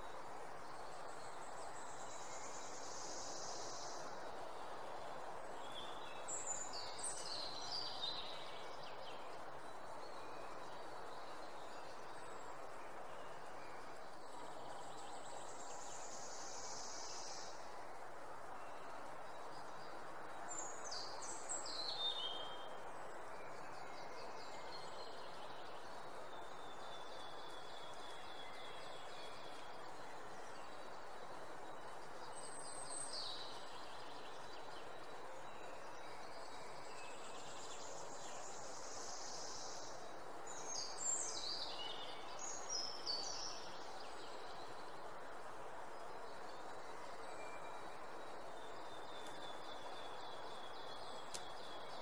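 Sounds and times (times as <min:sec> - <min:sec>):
small birds chirping: 0:00.0 - 0:52.0
steady background hiss: 0:00.0 - 0:52.0.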